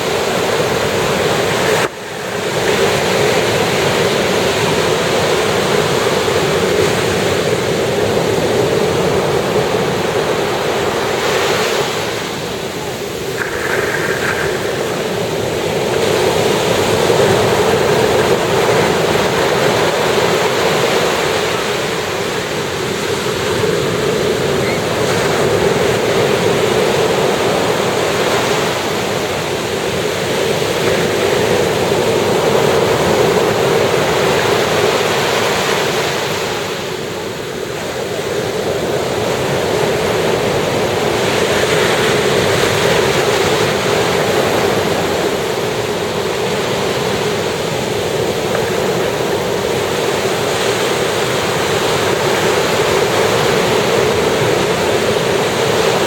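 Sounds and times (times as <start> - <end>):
ocean surf breaking ashore: 0.0 - 56.0.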